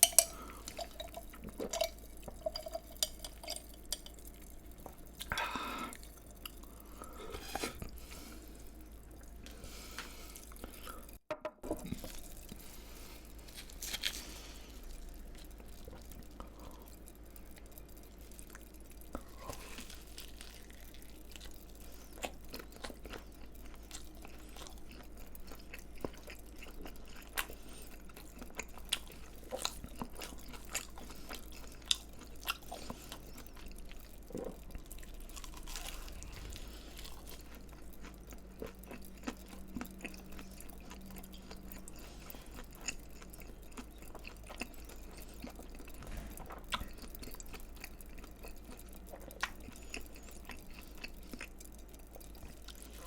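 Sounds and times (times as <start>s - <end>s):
chewing crispy fried food: 0.0s - 11.2s, 11.8s - 53.0s.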